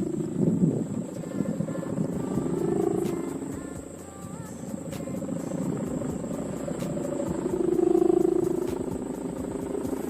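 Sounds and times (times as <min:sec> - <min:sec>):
kite hummer droning in wind: 0:00.0 - 0:10.0.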